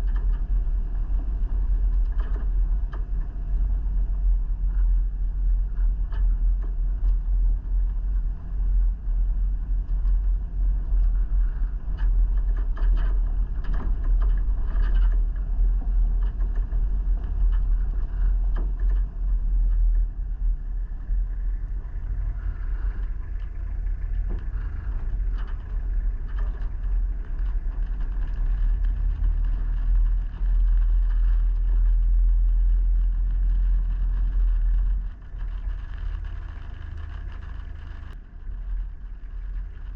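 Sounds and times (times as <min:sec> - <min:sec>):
vehicle low rumble: 0:00.0 - 0:39.9.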